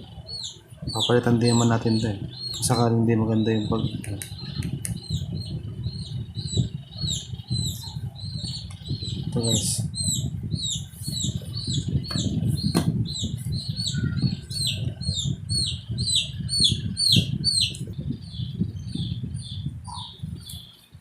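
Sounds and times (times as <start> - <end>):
chick peeping: 0.0 - 20.9.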